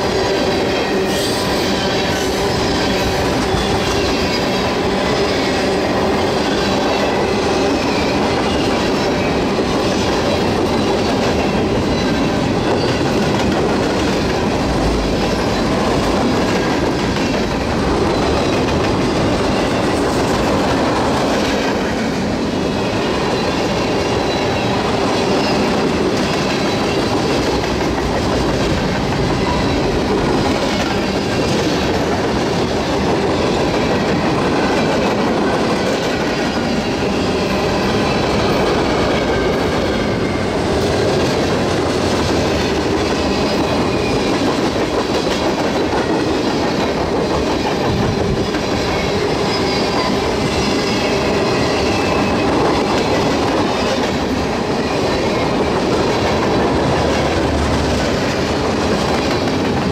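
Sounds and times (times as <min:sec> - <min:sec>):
freight train wheels clacking: 0:00.0 - 0:59.9.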